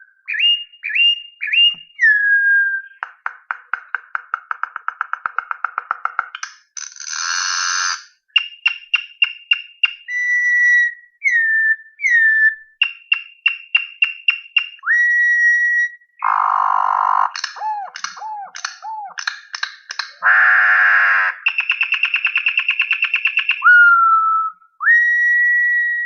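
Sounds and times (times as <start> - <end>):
songbird singing: 0.0 - 6.8, 8.1 - 26.0.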